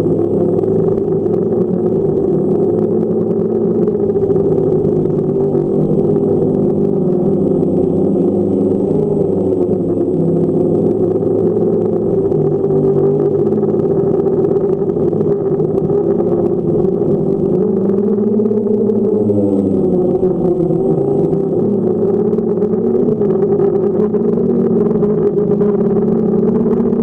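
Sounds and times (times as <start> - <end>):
drone motors humming: 0.0 - 27.0.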